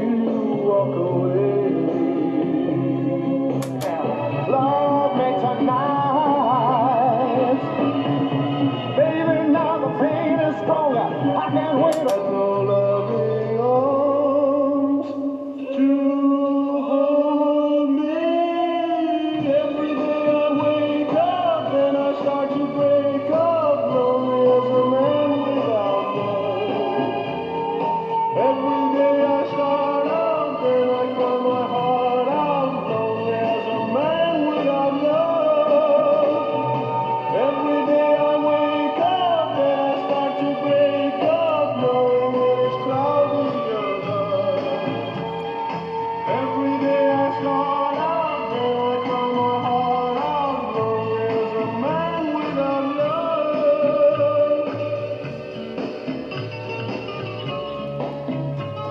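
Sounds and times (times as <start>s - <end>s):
guitar: 0.0s - 58.9s
pop song with man singing: 0.0s - 58.9s.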